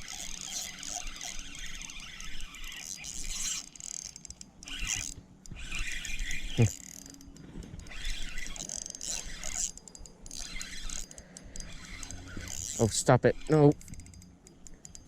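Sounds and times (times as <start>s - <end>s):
fishing reel clicking whir: 0.0s - 15.0s.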